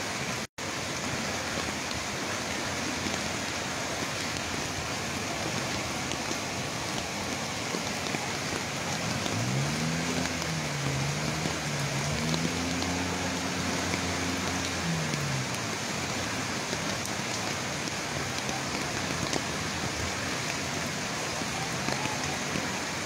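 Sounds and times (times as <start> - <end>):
heavy rain: 0.0 - 23.0
river rushing: 0.0 - 23.0.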